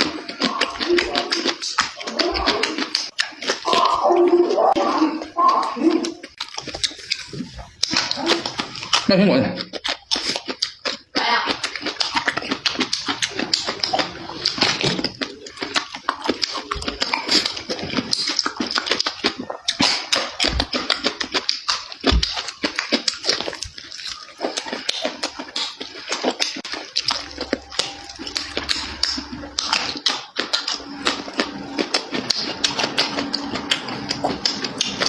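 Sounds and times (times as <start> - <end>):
wet chewing and slurping: 0.0 - 35.0.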